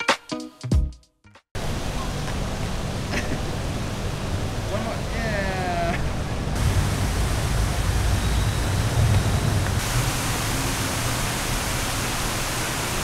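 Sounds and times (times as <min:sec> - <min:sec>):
rushing outdoor noise: 0:01.6 - 0:13.0.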